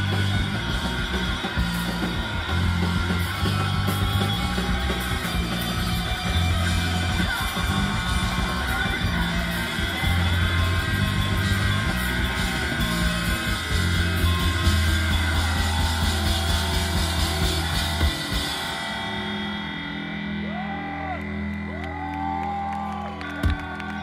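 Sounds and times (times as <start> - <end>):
live rock band playing: 0.0 - 22.5.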